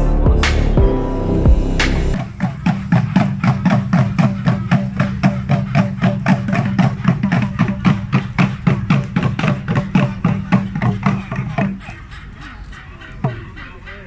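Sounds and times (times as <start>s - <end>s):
rhythmic percussion music: 0.0s - 14.0s.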